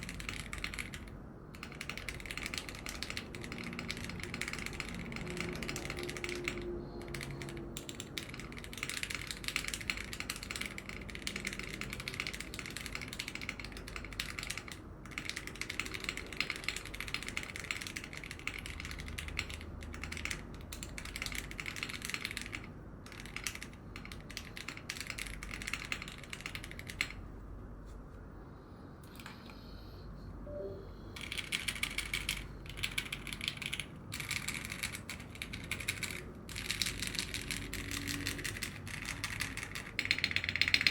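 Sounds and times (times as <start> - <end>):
fast typing on mechanical keyboard: 0.0 - 27.4, 31.2 - 40.9.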